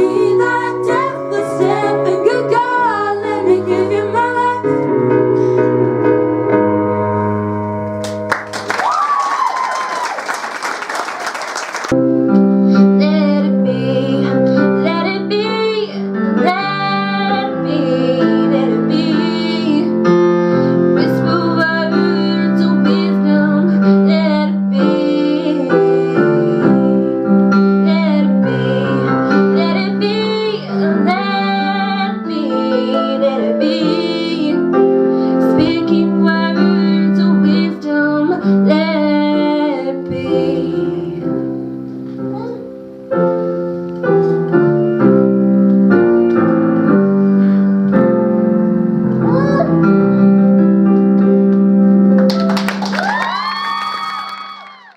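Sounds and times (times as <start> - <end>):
piano accompaniment: 0.0 - 54.9.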